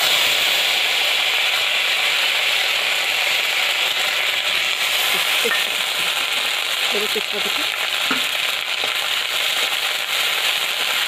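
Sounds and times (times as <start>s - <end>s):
spice paste sizzling in hot oil: 0.0s - 11.0s.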